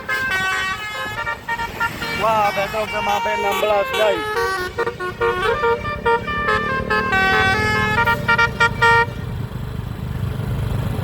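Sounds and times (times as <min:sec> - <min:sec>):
bus horn playing a tune: 0:00.0 - 0:09.4
bus engine rumble: 0:00.0 - 0:11.0.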